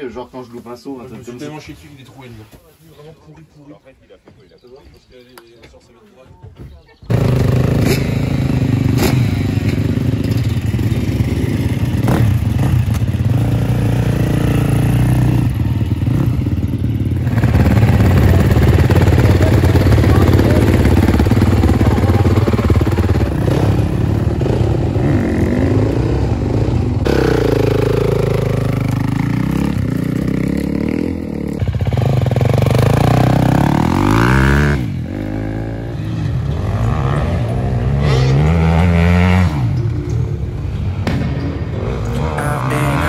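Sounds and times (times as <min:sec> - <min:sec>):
dirt bike engines revving: 0:07.1 - 0:43.0.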